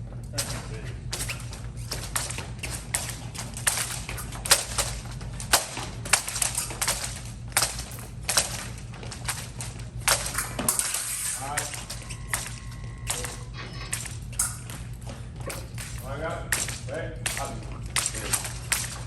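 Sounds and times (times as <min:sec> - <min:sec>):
fencers' footwork: 0:00.0 - 0:19.0
fencing blades clicking: 0:00.3 - 0:19.0.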